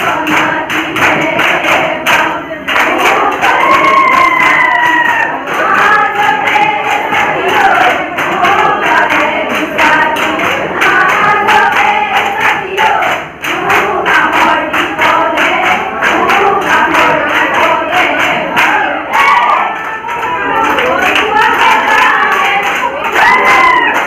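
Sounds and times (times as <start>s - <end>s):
women singing in chorus: 0.0s - 24.0s.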